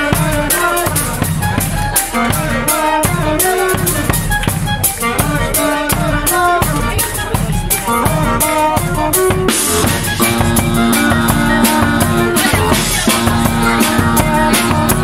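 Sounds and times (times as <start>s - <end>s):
bass drum and snare beating: 0.0s - 15.0s
brass band playing: 0.0s - 15.0s.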